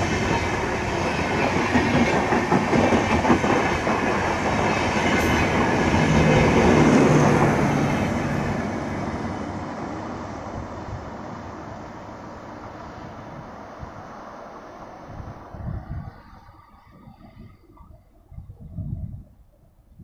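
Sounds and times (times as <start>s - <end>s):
train wheels on track: 0.0s - 18.0s.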